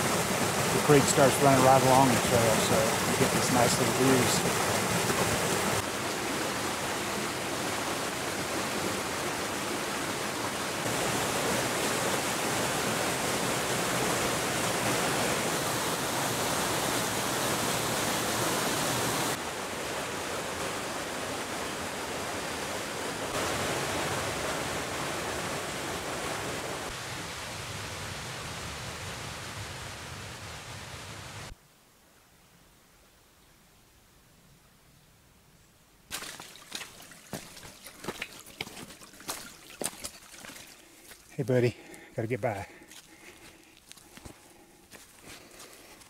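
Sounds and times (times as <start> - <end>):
creek rushing over rocks: 0.0 - 31.5, 36.1 - 46.0.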